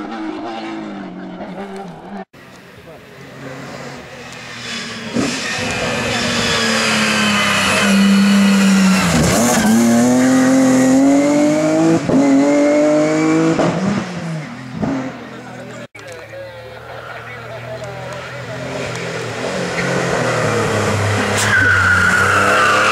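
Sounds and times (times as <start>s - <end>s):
race car engine at high revs: 0.0s - 2.3s, 3.1s - 15.9s, 16.8s - 22.9s.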